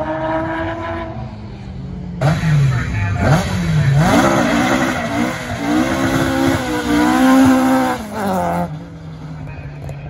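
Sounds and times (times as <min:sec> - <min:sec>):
rally car engine accelerating: 0:00.0 - 0:10.0.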